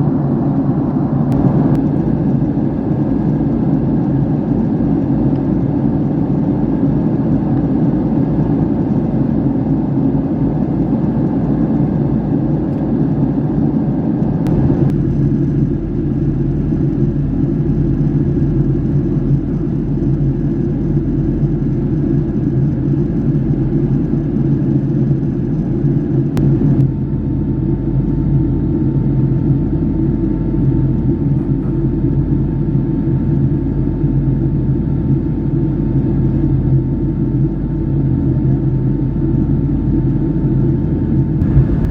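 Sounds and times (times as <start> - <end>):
jet engine and airflow cabin noise: 0.0 - 41.9.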